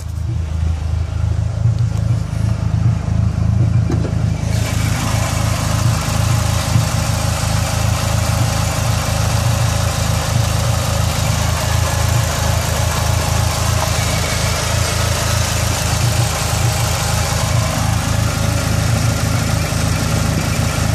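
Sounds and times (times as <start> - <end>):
car engine idling with misfire: 0.0 - 20.9.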